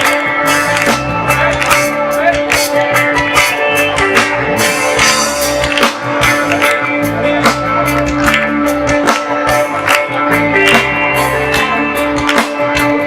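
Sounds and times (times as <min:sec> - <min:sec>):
drum kit beat: 0:00.0 - 0:13.0
plucked guitar: 0:00.0 - 0:13.0.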